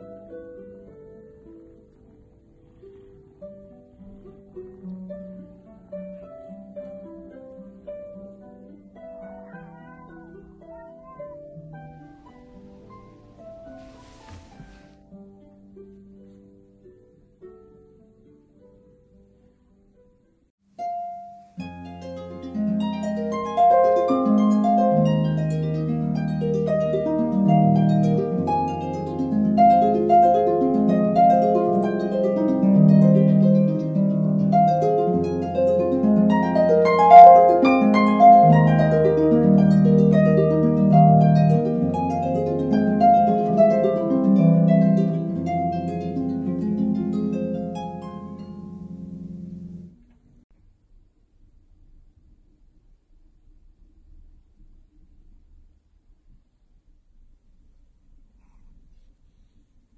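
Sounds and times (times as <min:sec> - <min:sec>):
plucked instrumental music: 0:00.0 - 0:50.0.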